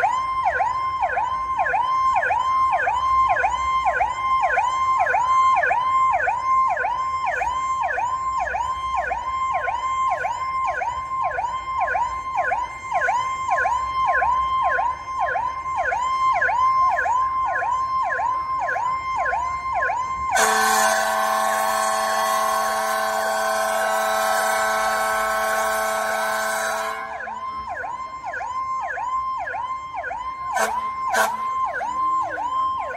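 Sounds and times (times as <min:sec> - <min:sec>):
fire engine siren yelping: 0:00.0 - 0:32.9.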